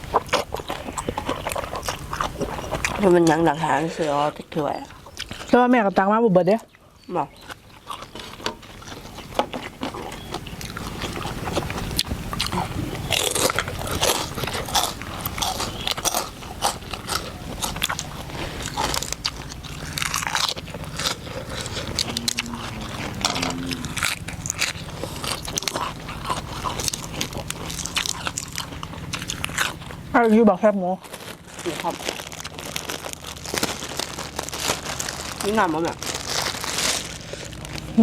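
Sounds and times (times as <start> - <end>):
crunchy chewing: 0.0 - 38.0.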